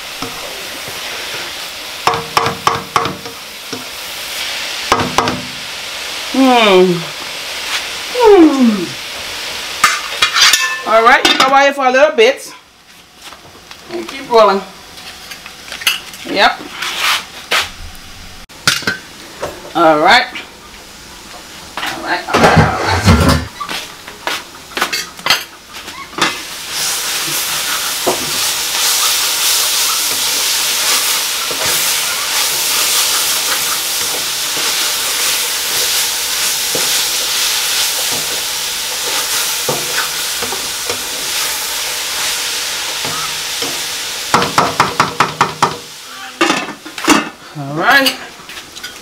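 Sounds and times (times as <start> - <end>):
food sizzling in a pot: 0.0 - 49.0.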